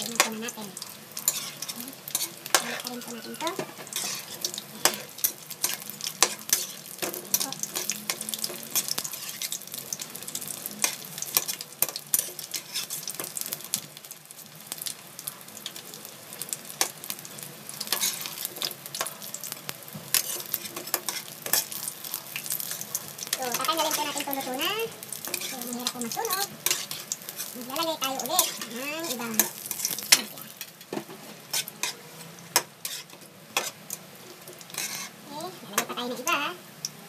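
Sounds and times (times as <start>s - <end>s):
spatula scraping wok: 0.0s - 14.0s, 16.4s - 36.4s
food sizzling in hot oil: 0.0s - 37.0s.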